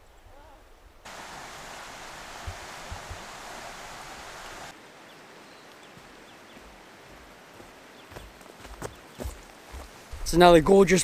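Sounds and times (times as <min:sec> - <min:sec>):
rush like running water: 0:01.0 - 0:11.0.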